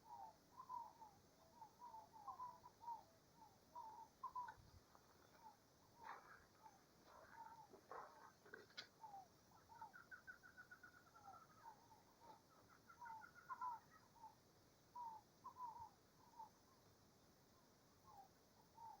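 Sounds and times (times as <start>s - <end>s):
bird trills: 0.0s - 16.8s, 18.1s - 19.0s
songbirds singing: 0.0s - 19.0s.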